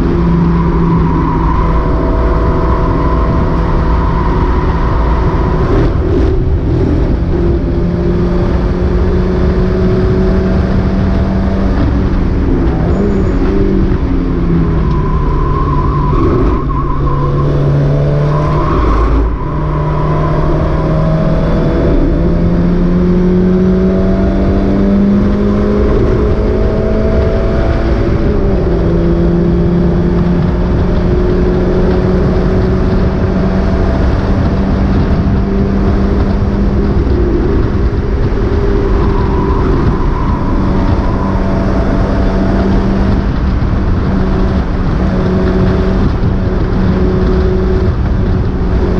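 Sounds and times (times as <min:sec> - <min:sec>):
car engine pulling hard: 0:00.0 - 0:48.9
road and wind noise: 0:00.0 - 0:48.9.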